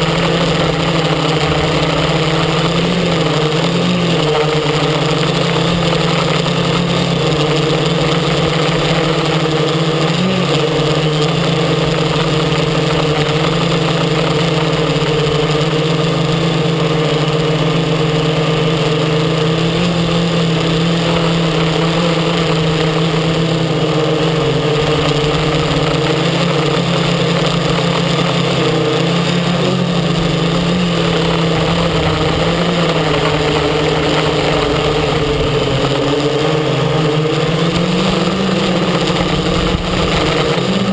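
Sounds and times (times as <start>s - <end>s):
quadcopter propellers humming: 0.0s - 40.9s.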